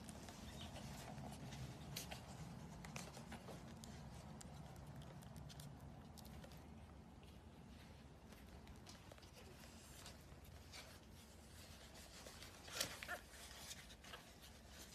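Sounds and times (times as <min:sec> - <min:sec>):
low room hum: 0:00.0 - 0:14.9
small clicks and rustles: 0:00.0 - 0:14.9.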